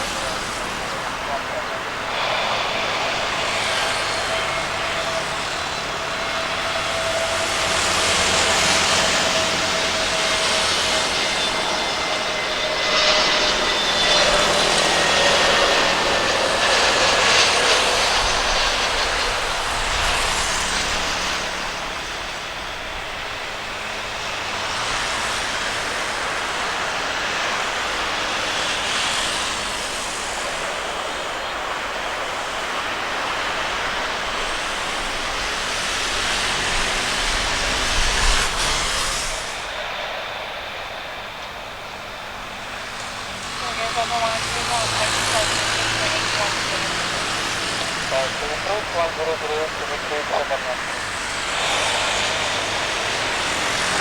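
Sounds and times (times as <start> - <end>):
jet engines of landing airliner: 0.0 - 54.0.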